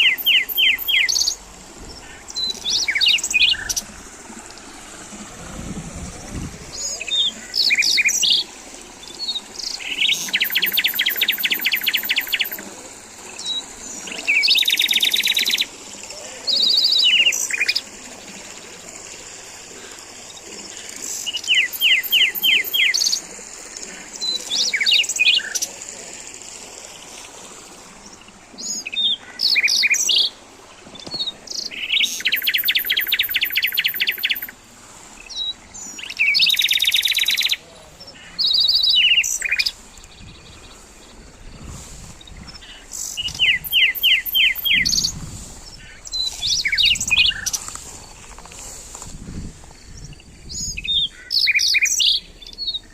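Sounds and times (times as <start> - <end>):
birds chirping and trilling: 0.0 - 4.8, 6.0 - 18.6, 19.8 - 26.0, 28.0 - 34.6, 35.2 - 52.9
steady high-pitched hiss: 0.0 - 52.9.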